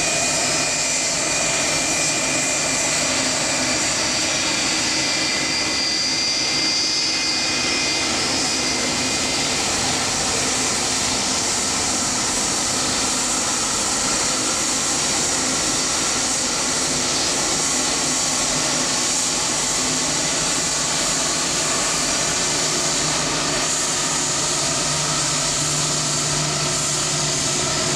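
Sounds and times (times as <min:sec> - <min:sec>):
jet engines whining: 0:00.0 - 0:27.9.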